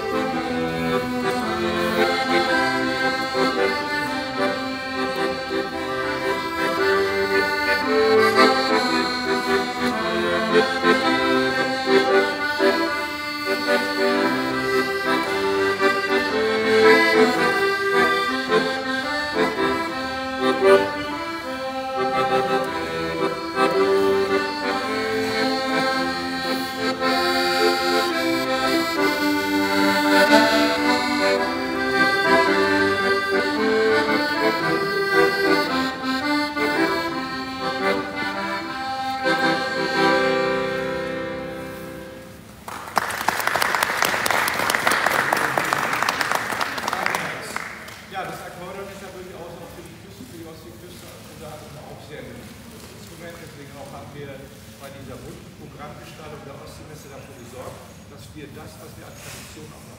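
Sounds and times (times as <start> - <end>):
accordion playing chords and melody: 0.0 - 42.7, 47.5 - 59.9.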